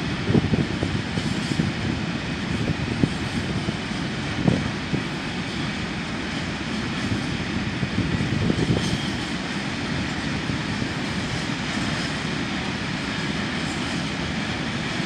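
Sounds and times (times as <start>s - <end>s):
low gusty swells: 0.0s - 15.0s
rail vehicles idling: 0.0s - 15.0s.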